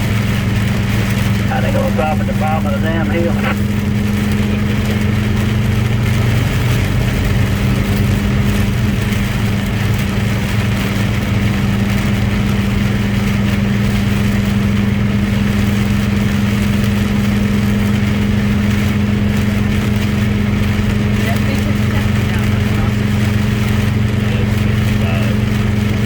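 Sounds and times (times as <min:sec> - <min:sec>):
road noise: 0:00.0 - 0:26.0
truck engine droning: 0:00.0 - 0:26.0.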